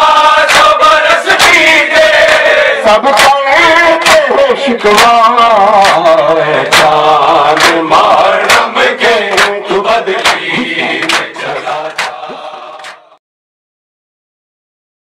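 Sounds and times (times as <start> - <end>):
men chanting: 0.0 - 13.2.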